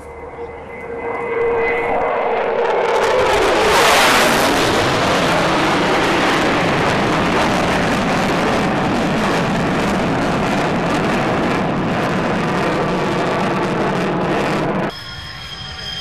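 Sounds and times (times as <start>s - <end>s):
fighter jet engines roaring: 0.0s - 16.0s.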